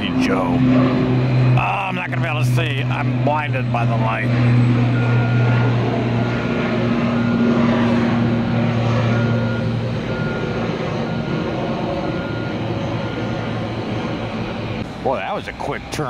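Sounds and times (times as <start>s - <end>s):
propeller plane drone: 0.0s - 16.0s
reversing alarm beeping: 0.0s - 16.0s.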